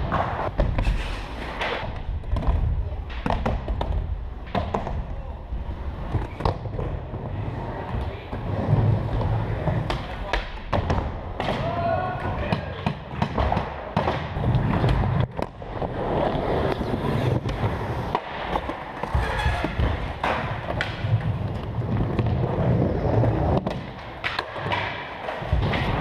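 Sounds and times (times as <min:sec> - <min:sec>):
skateboard wheels rolling: 0:00.0 - 0:11.4, 0:13.0 - 0:26.0.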